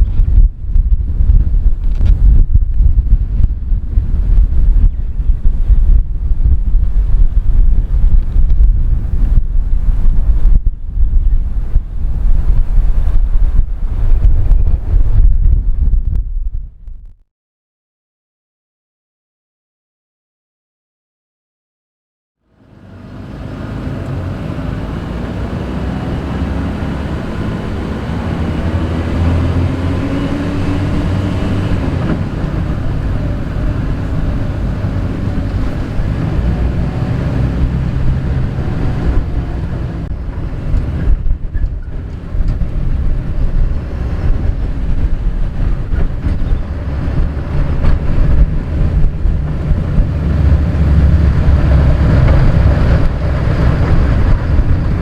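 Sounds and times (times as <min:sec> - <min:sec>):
vehicle engine running: 0:00.0 - 0:16.9, 0:22.5 - 0:55.0
wind buffeting microphone: 0:00.0 - 0:17.2, 0:22.8 - 0:55.0.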